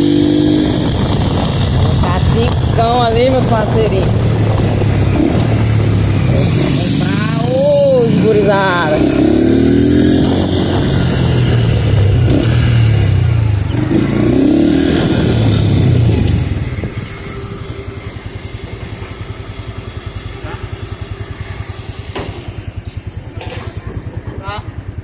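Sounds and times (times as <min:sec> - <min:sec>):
small motorcycle engine revving: 0:00.0 - 0:25.0.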